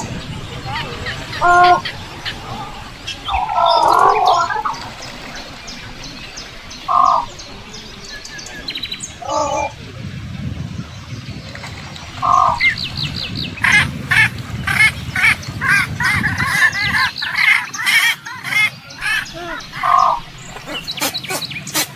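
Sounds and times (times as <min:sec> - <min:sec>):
bird calls: 0:00.0 - 0:10.0, 0:11.0 - 0:21.9.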